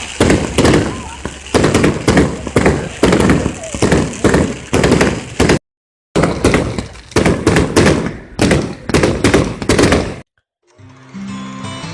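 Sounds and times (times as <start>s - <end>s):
fireworks bangs and crackles: 0.0s - 5.6s, 6.2s - 10.3s.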